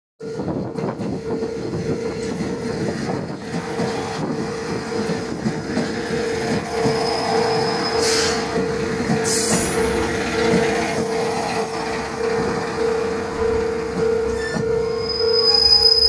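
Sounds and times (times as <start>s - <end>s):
diesel railcar engine hum: 0.2s - 16.0s
wheels clattering on rails: 0.4s - 15.9s.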